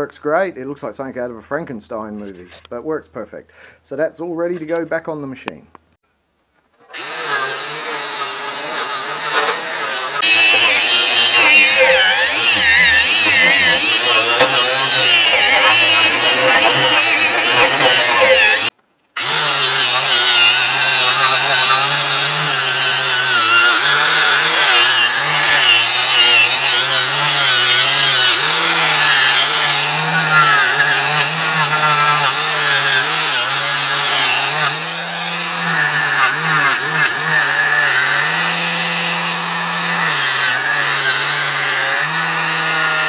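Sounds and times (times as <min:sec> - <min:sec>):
angle grinder wire wheel scraping metal: 0:06.8 - 0:43.0.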